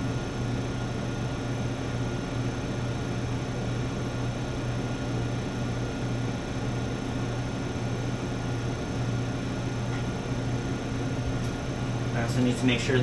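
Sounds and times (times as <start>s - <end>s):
low equipment hum with hiss: 0.0s - 13.0s.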